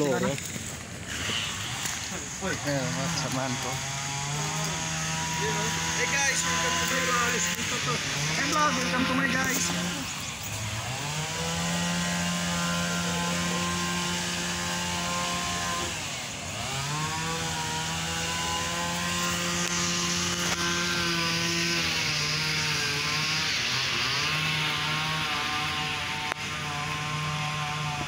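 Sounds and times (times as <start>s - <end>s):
small engine running high: 0.0s - 28.0s.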